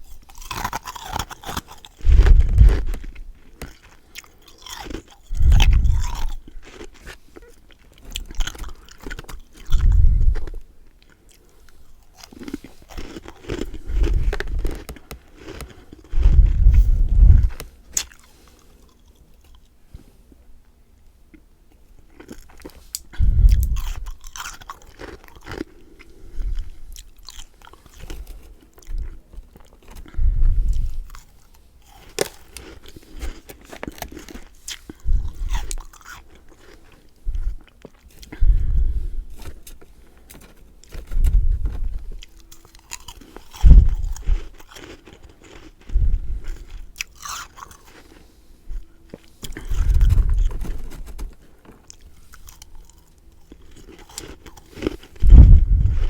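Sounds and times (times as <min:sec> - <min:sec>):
chewing and crunching frost: 0:00.0 - 0:20.4, 0:21.3 - 0:56.0.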